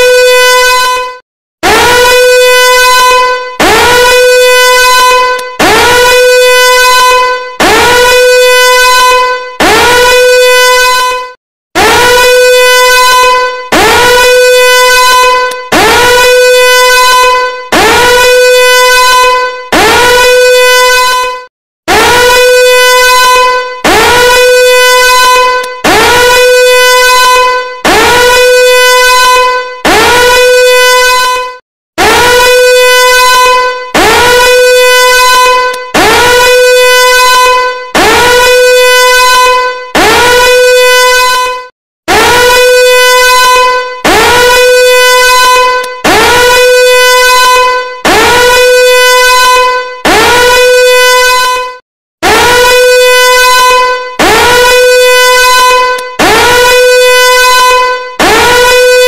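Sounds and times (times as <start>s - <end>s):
horn-like alarm tone: 0.0s - 59.0s.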